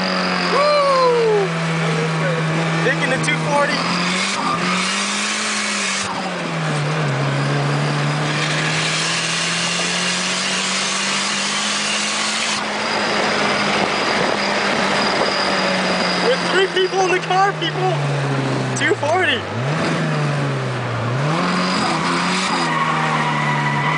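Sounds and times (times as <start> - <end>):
road and wind noise: 0.0 - 23.9.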